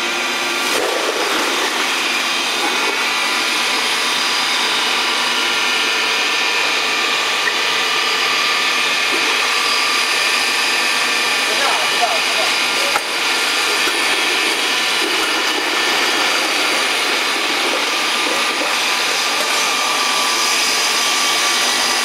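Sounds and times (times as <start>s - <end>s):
grinding machine motor whine: 0.0s - 22.0s.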